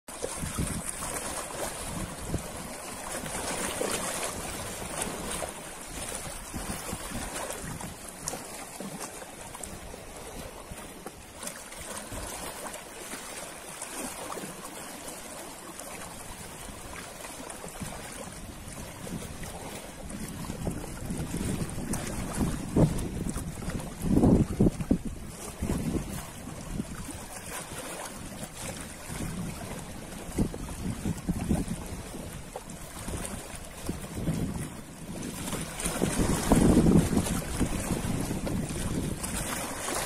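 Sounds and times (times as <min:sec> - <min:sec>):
ocean waves washing on shore: 0:00.1 - 0:40.0.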